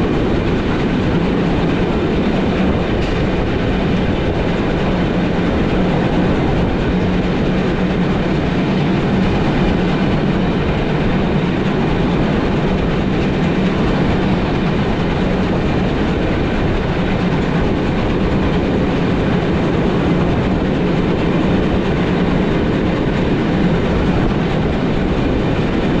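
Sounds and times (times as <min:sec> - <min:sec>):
train rolling on track: 0:00.0 - 0:26.0.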